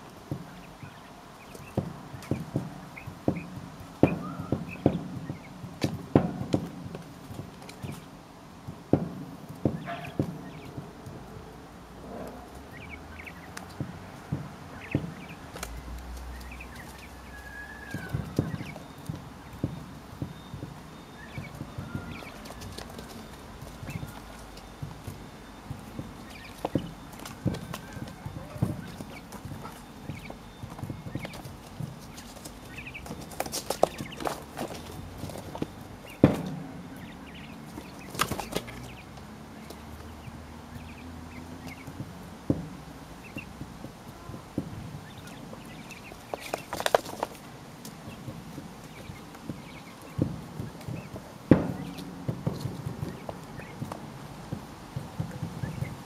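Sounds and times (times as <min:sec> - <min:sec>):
quail beaks knocking: 0:00.2 - 0:11.4, 0:12.1 - 0:56.0.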